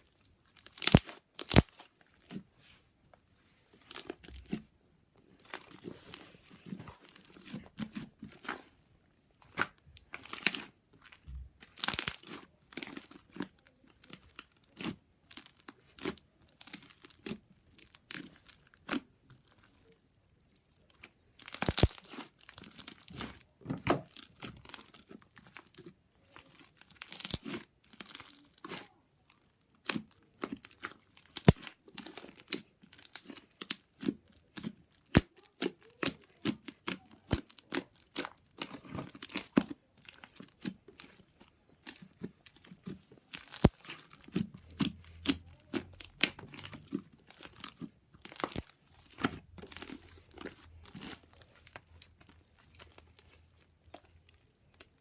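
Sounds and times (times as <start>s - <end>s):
slime crackling and popping: 0.1s - 2.4s, 3.8s - 55.0s.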